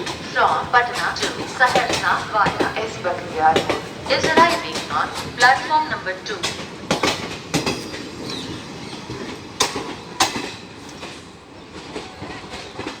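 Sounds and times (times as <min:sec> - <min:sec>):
train wheels knocking over rail joints: 0:00.0 - 0:13.0.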